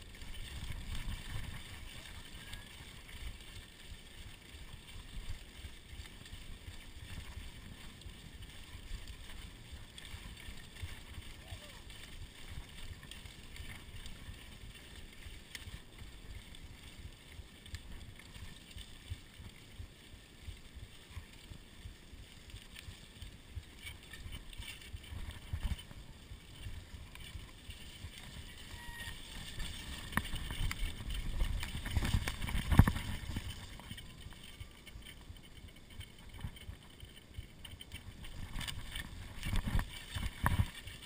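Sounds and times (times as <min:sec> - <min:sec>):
bike rattling: 0:00.0 - 0:41.0
bike tyre noise: 0:00.0 - 0:41.0
wind rumble on microphone: 0:00.0 - 0:41.0.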